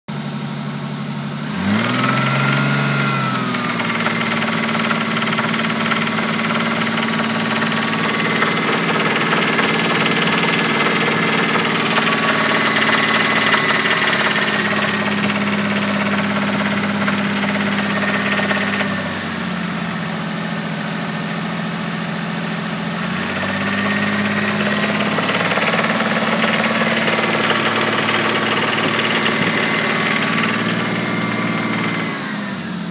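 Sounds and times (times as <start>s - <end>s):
car engine idling with knock: 3.0s - 20.6s, 23.2s - 32.2s.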